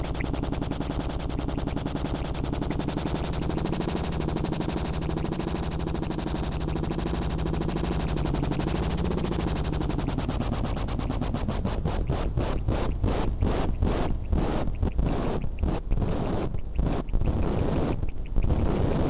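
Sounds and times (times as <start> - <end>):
buzzing noise texture: 0.0 - 19.0
rapid regular pulses: 0.0 - 19.0.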